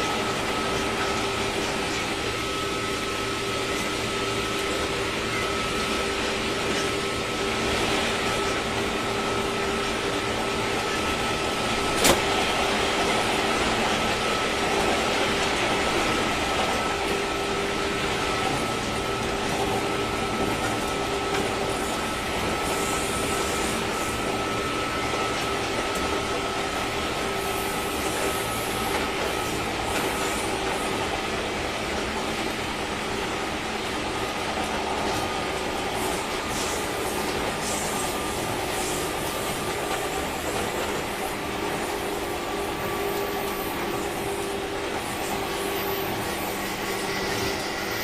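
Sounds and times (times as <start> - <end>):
train wheel and track noise: 0.0 - 48.0.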